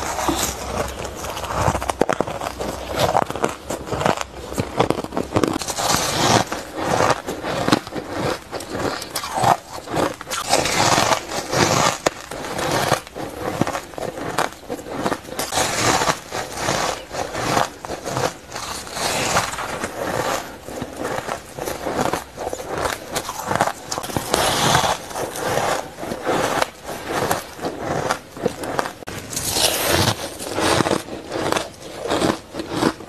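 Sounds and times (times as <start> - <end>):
shaved ice being chewed: 0.0 - 33.0.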